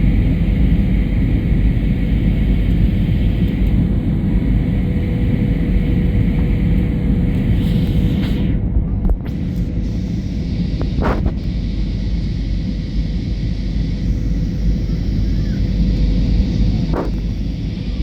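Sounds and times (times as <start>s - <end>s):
airliner engine rumble in cabin: 0.0s - 18.0s
faint steady hum: 0.0s - 18.0s.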